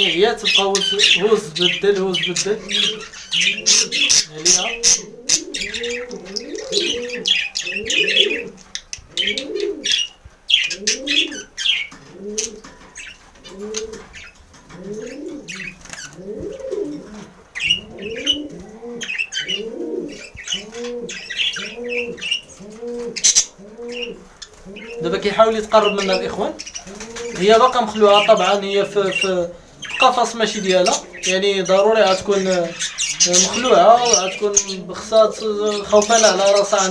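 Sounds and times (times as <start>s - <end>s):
budgerigars chattering: 0.0s - 36.9s
dove cooing: 0.0s - 36.9s.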